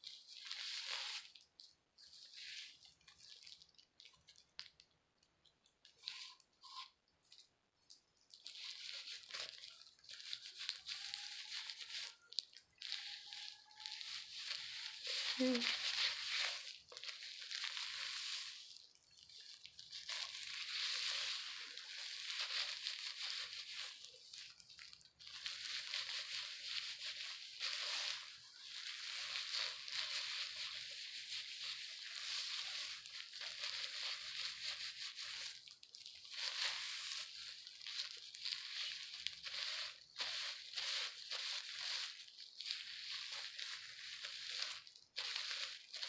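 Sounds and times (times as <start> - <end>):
gloved hands squishing wet hair: 0.0 - 46.0.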